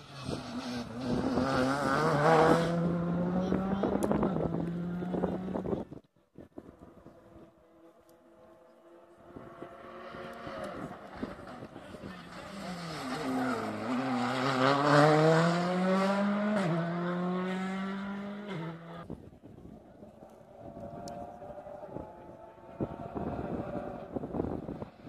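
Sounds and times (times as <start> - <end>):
rally car engine accelerating: 0.0 - 5.8, 6.6 - 19.0, 20.0 - 25.0.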